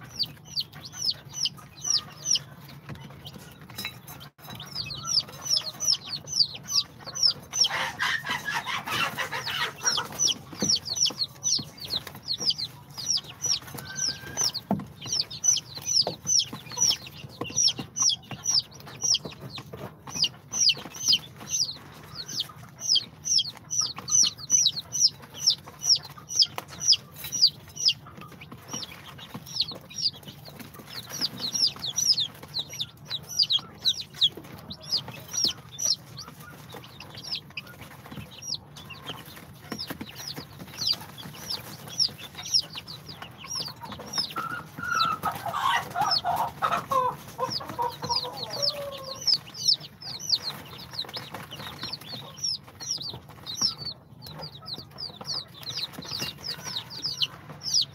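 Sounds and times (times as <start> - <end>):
chicks peeping: 0.0 - 57.9.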